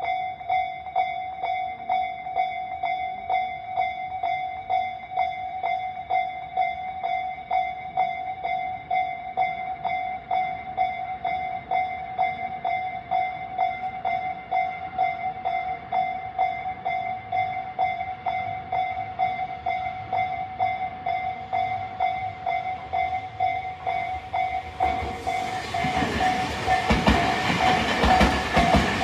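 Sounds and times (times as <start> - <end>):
level crossing warning bell: 0.0 - 29.0.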